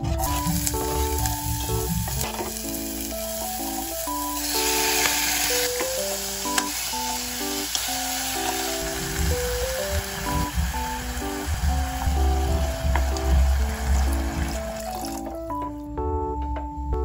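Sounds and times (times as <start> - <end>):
onion sizzling in hot oil: 0.1 - 15.2.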